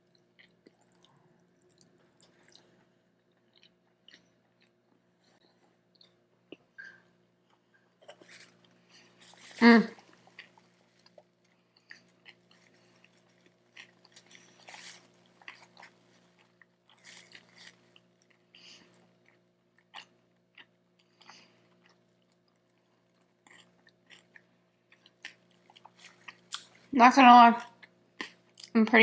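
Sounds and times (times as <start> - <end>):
person chewing crunchy food: 0.0 - 26.9, 27.6 - 28.7.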